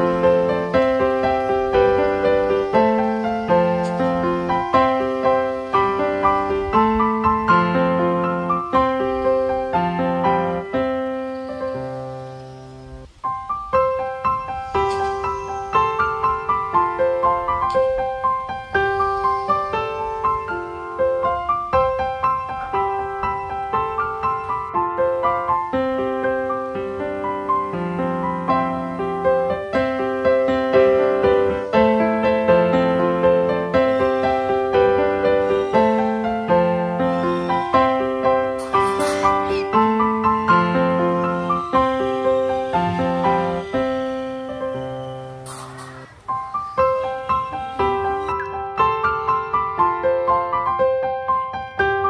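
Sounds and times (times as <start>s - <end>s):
gentle solo piano: 0.0s - 52.0s.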